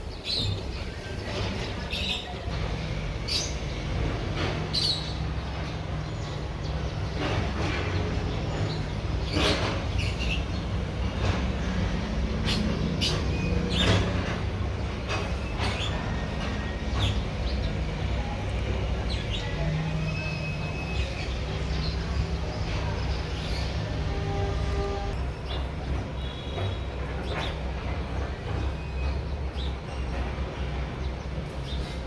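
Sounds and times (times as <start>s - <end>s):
engine droning: 0.4s - 32.0s.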